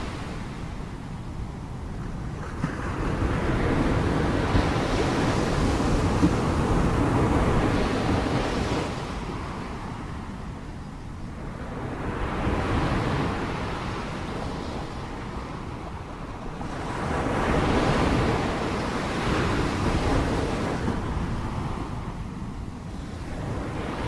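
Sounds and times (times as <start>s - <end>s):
sea waves surging and washing: 0.0s - 24.0s.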